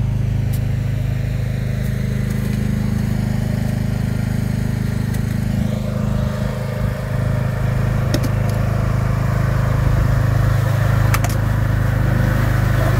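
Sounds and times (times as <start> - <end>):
small engine droning: 0.0 - 12.9.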